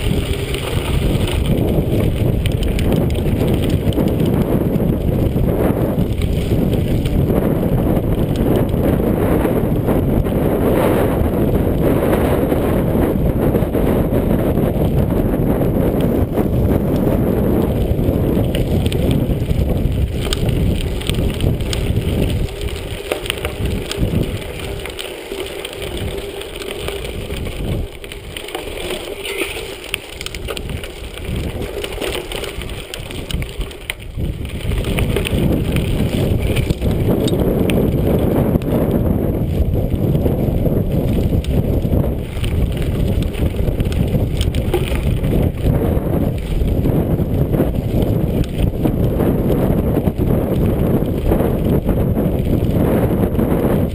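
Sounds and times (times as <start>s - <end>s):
bike parts rattling: 0.0s - 10.6s, 13.7s - 52.8s
bike tyres crunching on dirt: 0.0s - 53.9s
wind buffeting microphone: 0.0s - 53.9s.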